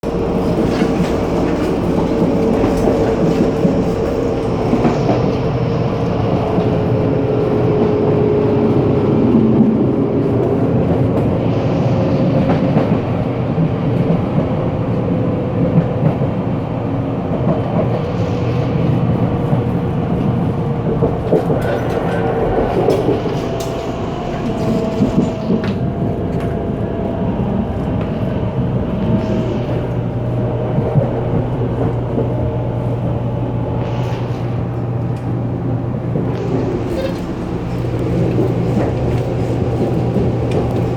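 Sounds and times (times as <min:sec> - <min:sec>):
steady train whine: 0:00.0 - 0:40.9
train wheels rumbling on rail: 0:00.0 - 0:40.9.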